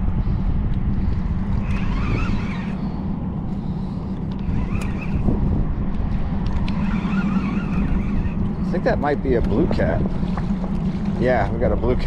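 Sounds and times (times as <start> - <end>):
ship engines humming: 0.0 - 12.0.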